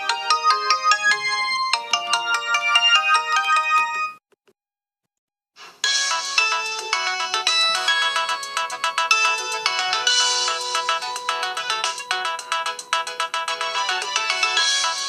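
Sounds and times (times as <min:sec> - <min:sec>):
mobile phone ringtone melody: 0:00.0 - 0:04.2, 0:05.8 - 0:15.0.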